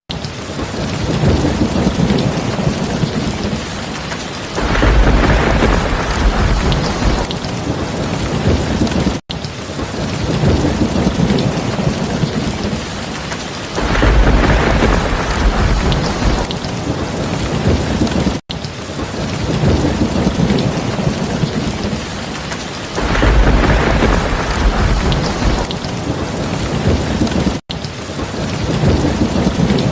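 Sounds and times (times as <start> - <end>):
steady rain falling: 0.1 - 29.9
low rumble of thunder: 0.7 - 3.7, 4.5 - 9.2, 9.9 - 12.9, 13.7 - 18.4, 19.1 - 22.0, 22.9 - 27.6, 28.4 - 29.9.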